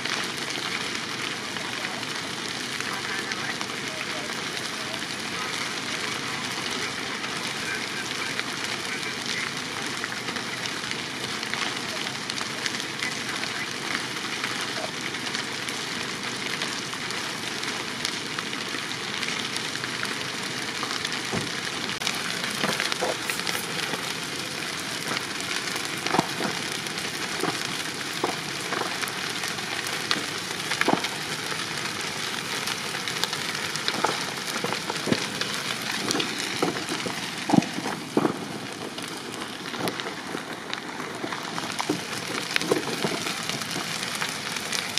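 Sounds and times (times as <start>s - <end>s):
burning timber crackling and popping: 0.0s - 44.9s
flames roaring: 0.0s - 44.9s.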